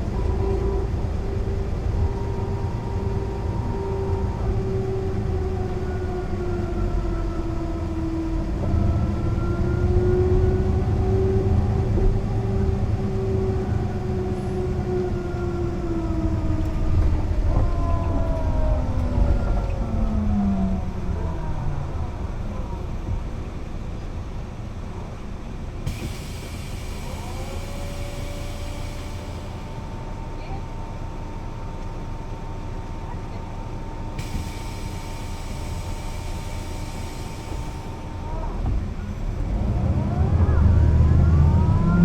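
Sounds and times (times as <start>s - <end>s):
bus drivetrain rumble and whine: 0.0s - 42.0s.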